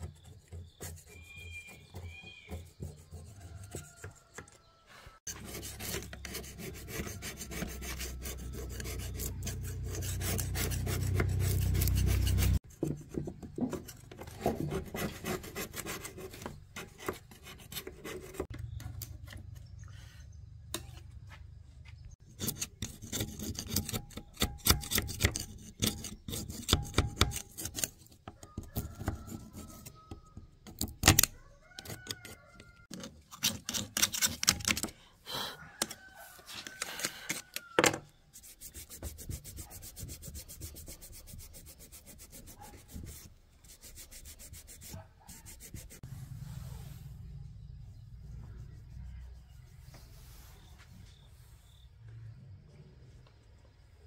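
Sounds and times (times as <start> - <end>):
scraping and rubbing on casing: 0.0 - 19.8, 22.1 - 35.0, 35.8 - 47.0, 48.4 - 50.8.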